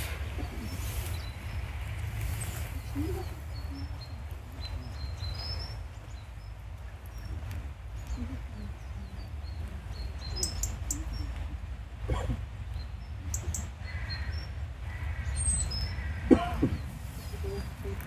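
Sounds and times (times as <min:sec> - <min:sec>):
songbirds chirping: 0:00.0 - 0:18.0
steady low rumble: 0:00.0 - 0:18.0.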